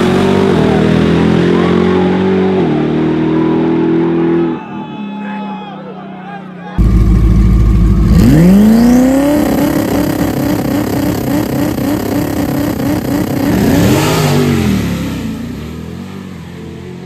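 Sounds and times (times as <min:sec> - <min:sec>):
cars accelerating hard: 0:00.0 - 0:04.6, 0:06.8 - 0:17.0.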